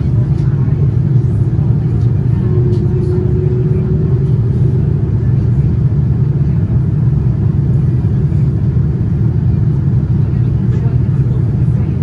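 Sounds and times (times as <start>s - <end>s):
airflow noise: 0.0s - 12.0s
airliner cabin engine rumble: 0.0s - 12.0s.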